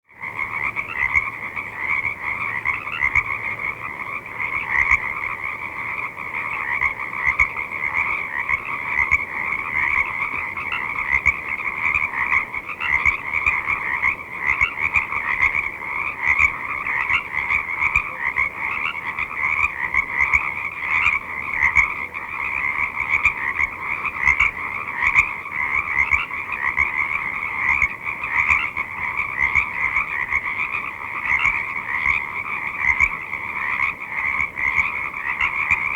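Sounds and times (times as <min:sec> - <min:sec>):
frogs croaking and peeping: 0:00.0 - 0:35.9.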